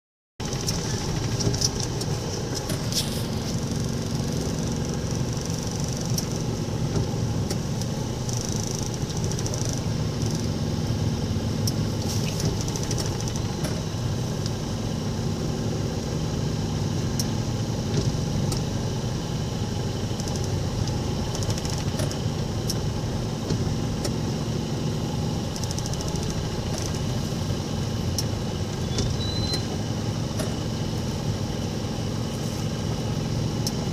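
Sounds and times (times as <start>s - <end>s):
vehicle engines in traffic: 0.4s - 33.9s.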